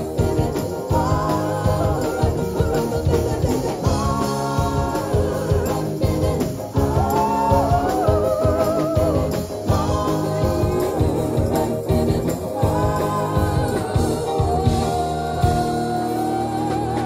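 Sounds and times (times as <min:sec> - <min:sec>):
drums: 0:00.0 - 0:17.0
electric guitars: 0:00.0 - 0:17.0
woman singing lead vocal: 0:00.0 - 0:17.0.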